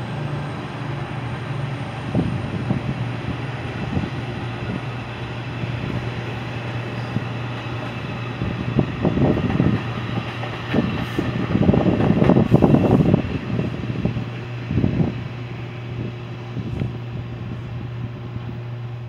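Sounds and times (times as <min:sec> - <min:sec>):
train engine drone: 0:00.0 - 0:19.0
train rumble: 0:00.0 - 0:19.0.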